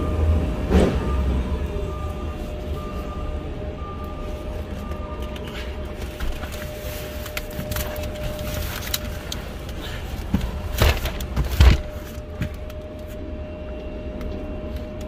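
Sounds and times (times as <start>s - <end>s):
machinery whine: 0.0s - 15.0s.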